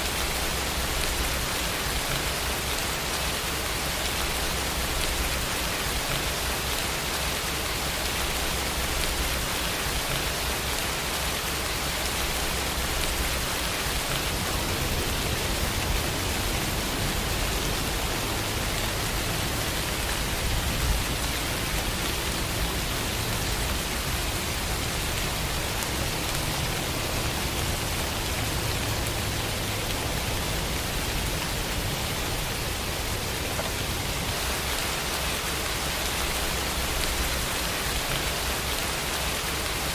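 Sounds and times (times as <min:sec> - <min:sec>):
heavy rain: 0:00.0 - 0:39.9
rain patter: 0:00.0 - 0:39.9.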